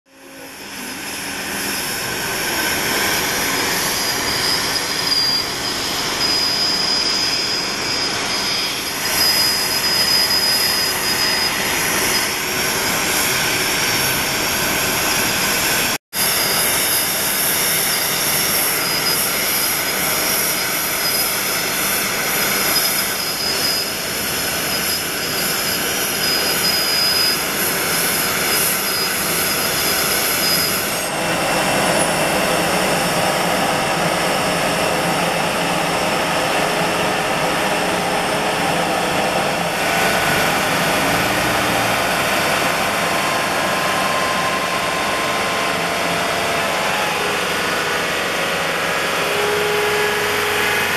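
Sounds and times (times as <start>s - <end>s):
high-pitched turbine whine: 0.1s - 50.9s
jet turbine roar: 0.1s - 50.9s.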